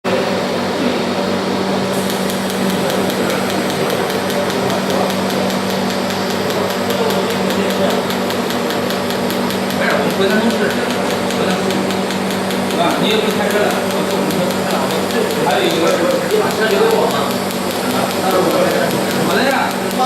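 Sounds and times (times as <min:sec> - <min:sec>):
welding equipment electrical hum: 0:01.8 - 0:20.0
fast high ticking: 0:01.9 - 0:20.0.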